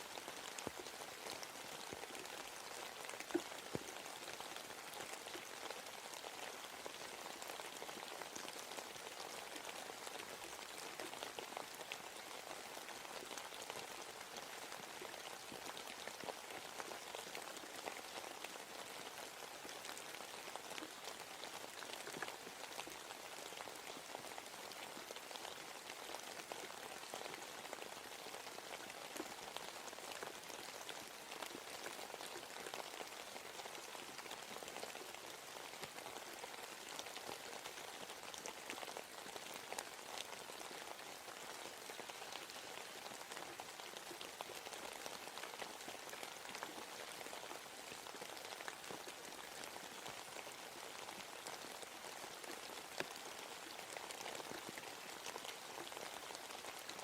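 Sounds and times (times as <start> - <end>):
rain patter on leaves: 0.0 - 57.0.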